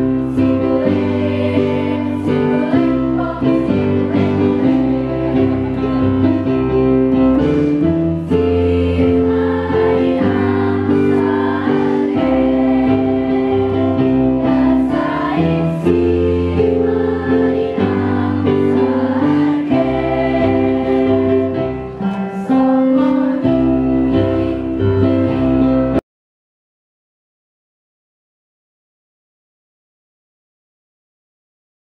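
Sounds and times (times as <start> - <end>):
choir singing in harmony: 0.0 - 26.0
electronic keyboard: 0.0 - 26.0.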